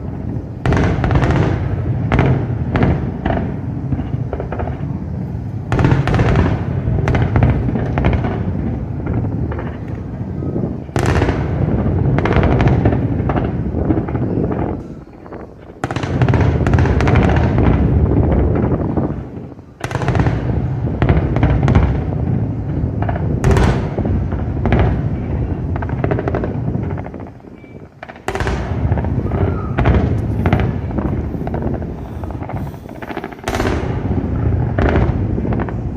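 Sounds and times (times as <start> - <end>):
continuous low rumble: 0.0 - 35.9
fireworks bangs and crackle: 0.0 - 35.9.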